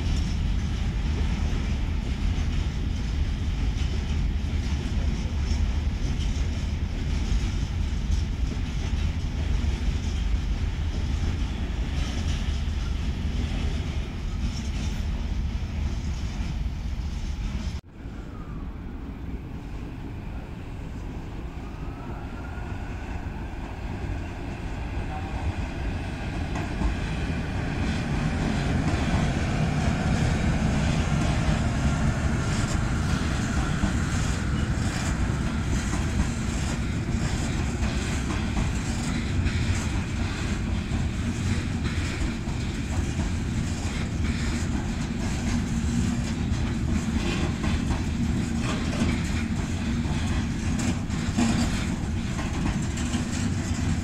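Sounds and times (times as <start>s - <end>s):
wheels clicking over rail joints: 0.0s - 16.4s, 25.9s - 54.0s
rumble of rolling wagons: 0.0s - 17.8s, 25.4s - 54.0s.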